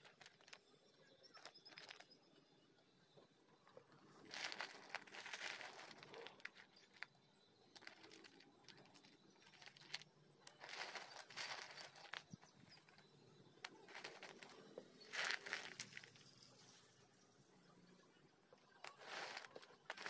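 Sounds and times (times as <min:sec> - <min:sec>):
clay chunks clinking and rustling: 0:00.0 - 0:02.6, 0:03.2 - 0:16.8, 0:18.6 - 0:20.0.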